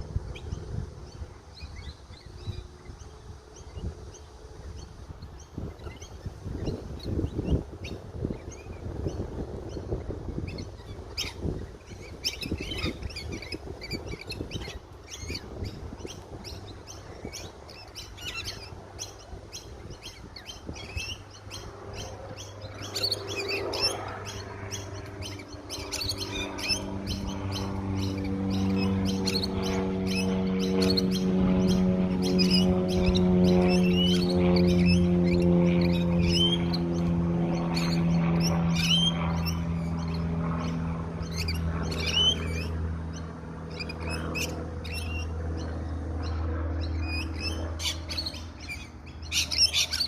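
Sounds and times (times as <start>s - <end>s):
birds chirping and twittering: 0.0s - 50.0s.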